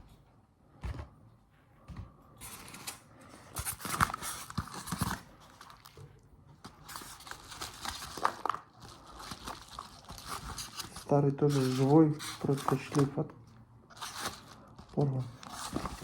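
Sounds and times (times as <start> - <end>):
packaging rustling and crinkling: 2.4 - 16.0.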